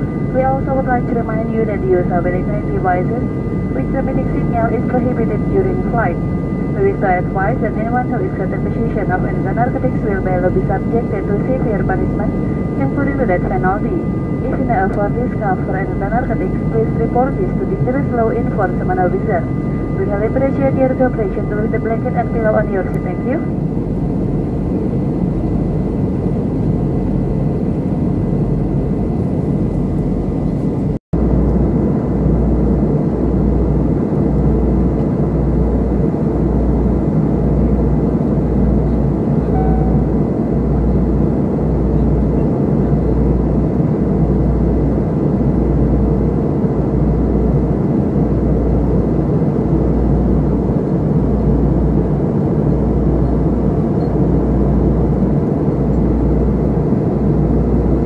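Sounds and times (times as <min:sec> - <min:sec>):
airliner engines and airflow rush: 0:00.0 - 0:58.0
deep pulsing rumble: 0:00.0 - 0:58.0.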